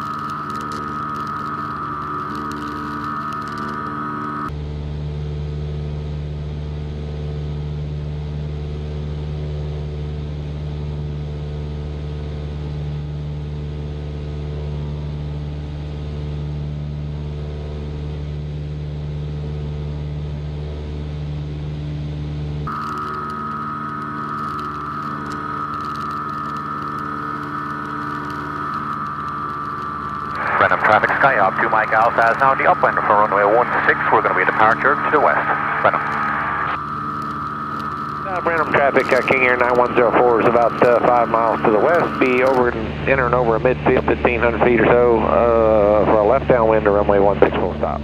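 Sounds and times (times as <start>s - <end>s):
piston engine and propeller droning: 0.0s - 48.0s.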